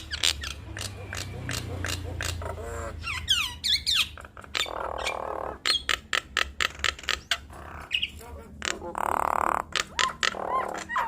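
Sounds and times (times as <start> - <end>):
mynas clicking and squawking: 0.0 - 11.0.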